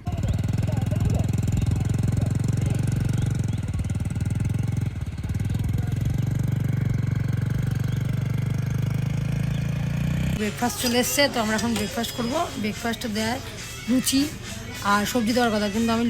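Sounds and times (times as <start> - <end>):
engine running with rapid pulse: 0.0 - 16.0.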